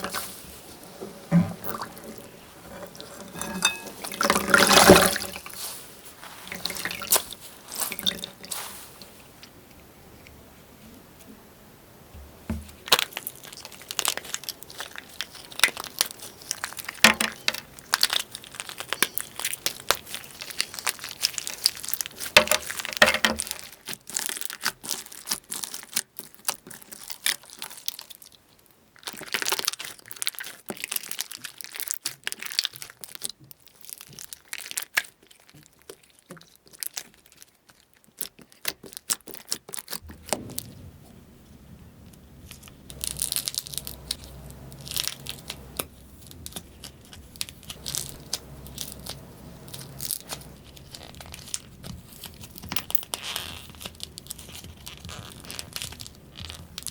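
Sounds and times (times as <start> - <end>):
brittle material crackling and crunching: 2.7 - 9.1, 12.5 - 40.7, 42.4 - 56.9.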